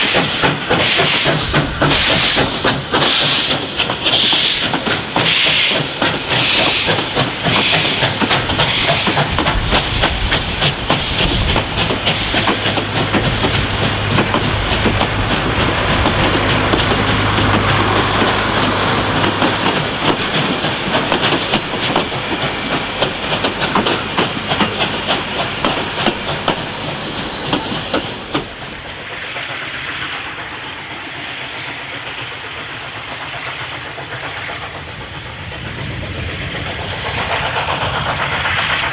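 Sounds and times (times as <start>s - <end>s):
steam locomotive exhaust beats: 0.0s - 38.9s
train wheels clacking over rail joints: 0.0s - 38.9s.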